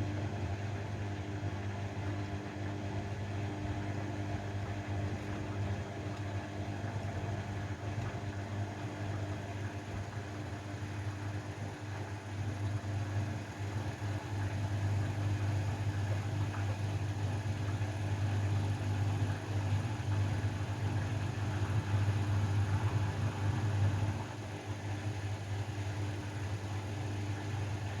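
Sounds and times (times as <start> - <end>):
washing machine running: 0.0 - 28.0.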